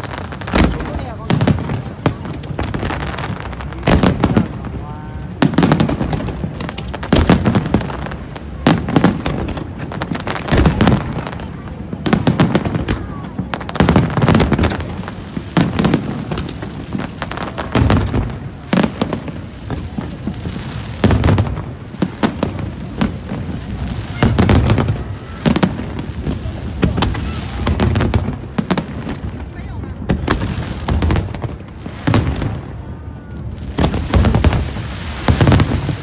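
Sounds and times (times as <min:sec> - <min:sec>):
deep firework booms: 0:00.0 - 0:36.0
firework bangs: 0:00.0 - 0:36.0.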